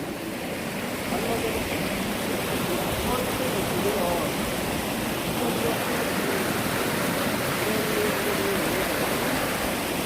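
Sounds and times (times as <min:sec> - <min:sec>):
waterfall pouring into pool: 0:00.0 - 0:10.0.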